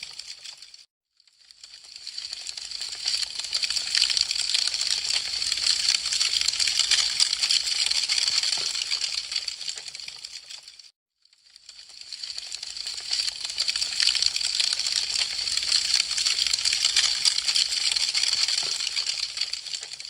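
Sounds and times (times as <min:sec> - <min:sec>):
wood fire crackling: 0:01.6 - 0:10.6, 0:11.6 - 0:20.0.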